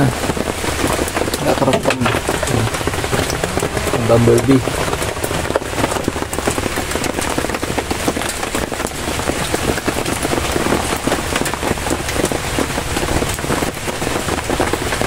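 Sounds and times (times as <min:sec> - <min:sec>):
heavy rain on river and boat: 0:00.0 - 0:15.0.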